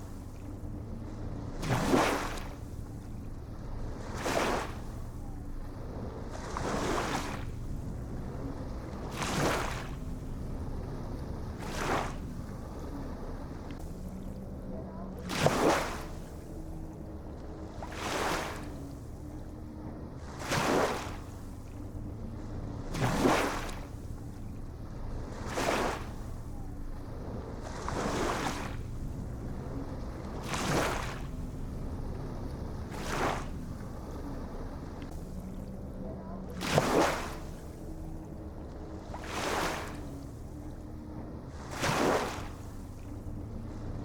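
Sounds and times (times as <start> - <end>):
faint low hum: 0.0 - 44.0
low rumble of surf: 0.0 - 44.0
ocean waves breaking: 0.0 - 44.0.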